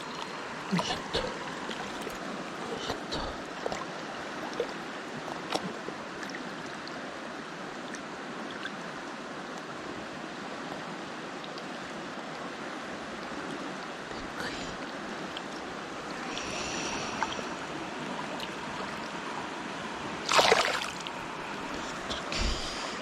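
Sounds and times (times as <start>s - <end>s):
stream rushing over rocks: 0.0s - 23.0s.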